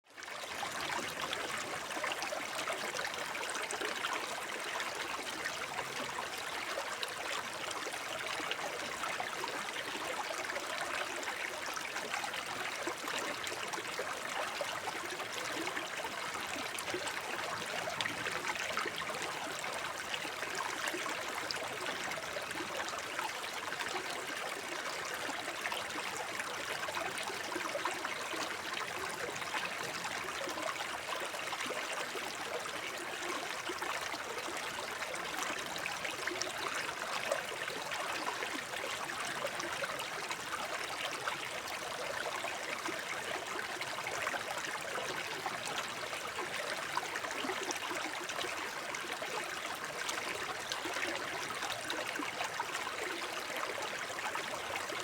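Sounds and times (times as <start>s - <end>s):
brook trickling over stones: 0.1s - 55.0s.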